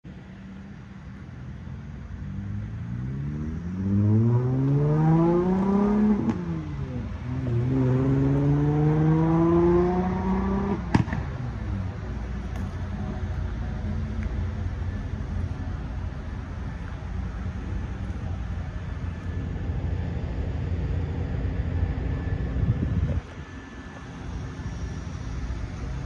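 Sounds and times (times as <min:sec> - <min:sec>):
diesel truck engine accelerating: 0:02.0 - 0:26.0.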